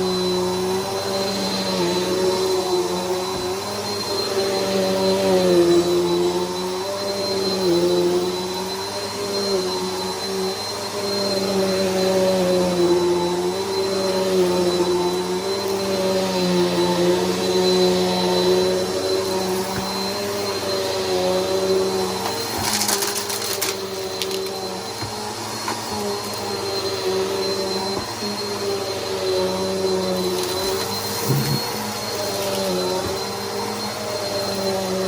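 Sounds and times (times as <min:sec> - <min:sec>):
upright vacuum cleaner running: 0:00.0 - 0:35.0.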